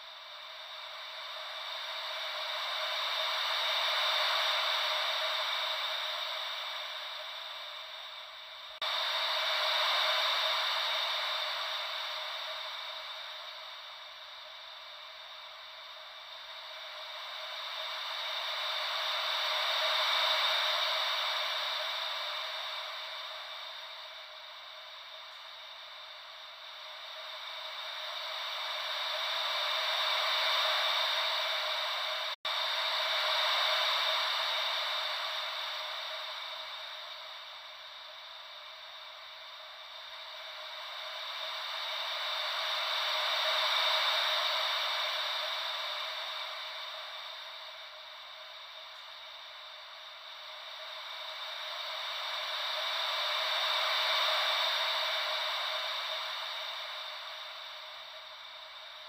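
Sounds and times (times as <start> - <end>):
ocean wave white noise: 0.0 - 59.0.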